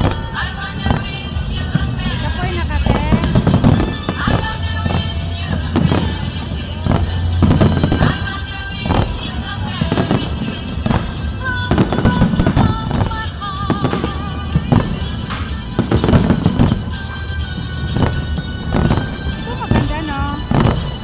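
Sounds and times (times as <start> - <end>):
fireworks bursting: 0.0 - 21.0
music: 0.0 - 21.0.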